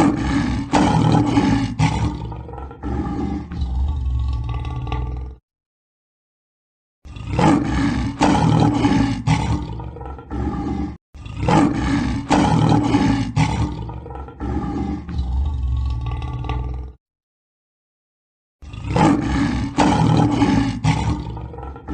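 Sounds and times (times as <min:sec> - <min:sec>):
lion roaring: 0:00.0 - 0:05.4, 0:07.1 - 0:17.0, 0:18.6 - 0:21.9.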